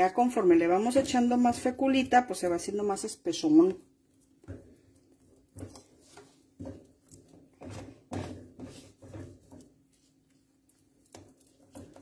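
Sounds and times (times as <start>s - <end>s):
wooden spatula scraping a pan: 0.0s - 12.0s.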